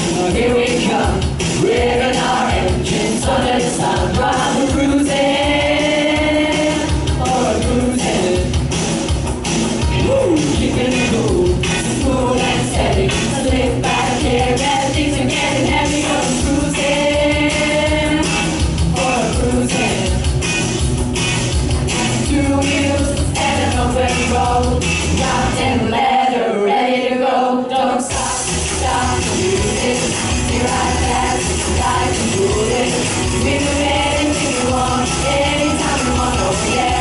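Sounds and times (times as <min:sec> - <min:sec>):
group of voices singing: 0:00.0 - 0:08.6, 0:09.9 - 0:20.4, 0:21.8 - 0:37.0
band with steady beat: 0:00.0 - 0:25.6, 0:28.1 - 0:37.0.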